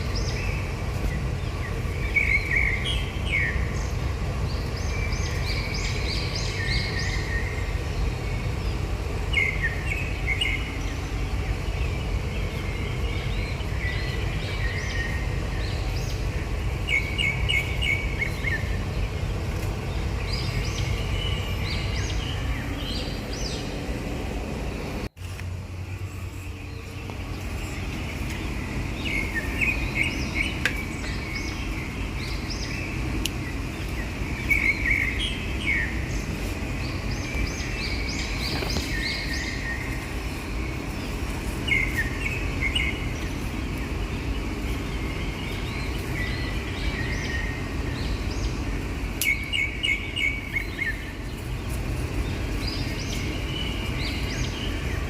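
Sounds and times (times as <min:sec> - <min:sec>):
low outdoor rumble: 0:00.0 - 0:55.0
small birds chirping: 0:00.0 - 0:55.0.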